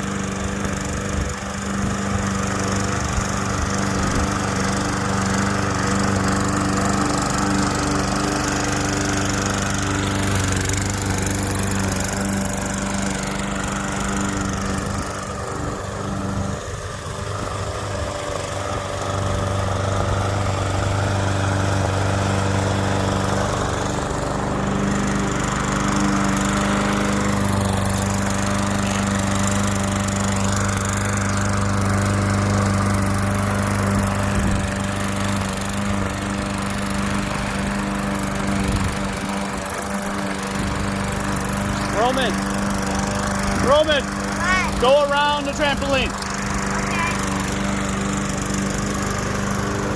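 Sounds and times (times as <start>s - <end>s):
lawn mower cutting grass: 0.0s - 49.9s.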